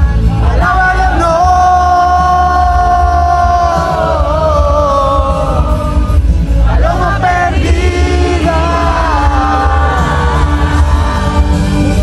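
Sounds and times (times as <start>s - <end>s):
loud band with heavy bass: 0.0s - 12.0s.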